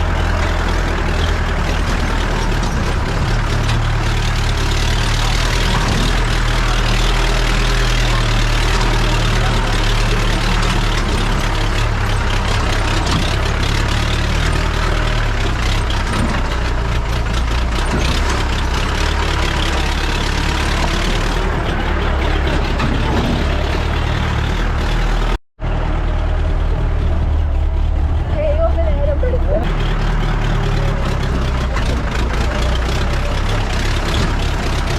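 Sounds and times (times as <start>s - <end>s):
dense rattle: 0.0s - 25.4s, 26.4s - 34.9s
car engine running: 0.0s - 34.9s
road noise: 0.0s - 34.9s.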